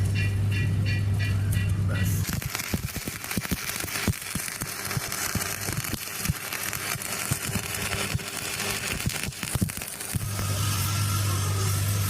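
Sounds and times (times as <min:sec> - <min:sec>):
welding arc crackling and popping: 0:01.5 - 0:12.0.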